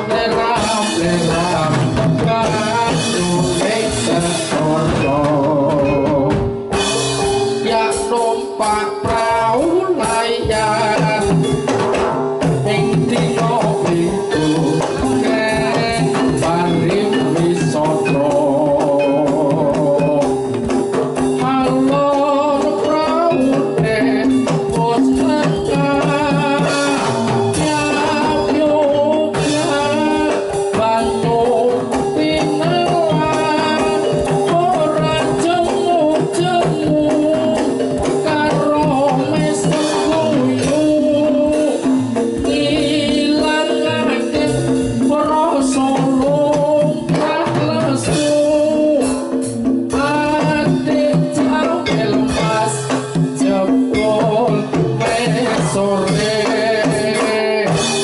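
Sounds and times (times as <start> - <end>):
gamelan ensemble: 0.0 - 58.0
hand drum beating: 0.0 - 58.0
person singing: 0.0 - 58.0.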